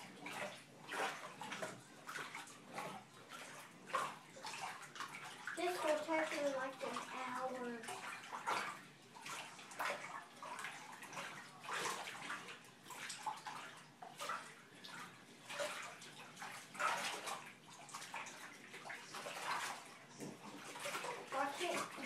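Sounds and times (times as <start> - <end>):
water sloshing in a bathtub: 0.0 - 22.0.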